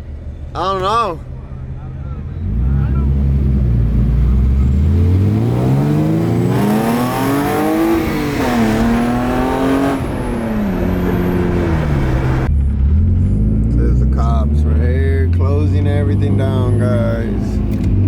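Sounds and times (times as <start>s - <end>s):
car engine accelerating: 2.3s - 18.0s.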